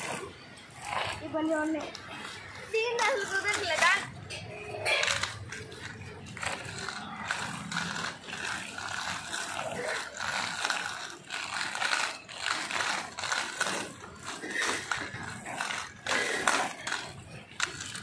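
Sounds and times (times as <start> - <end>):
plastic wheels rattling on cement: 0.0 - 18.0.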